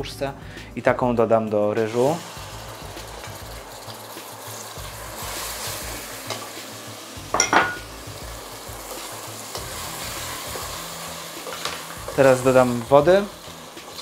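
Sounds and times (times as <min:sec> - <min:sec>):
rice and lentils sizzling in oil: 0:01.3 - 0:14.0.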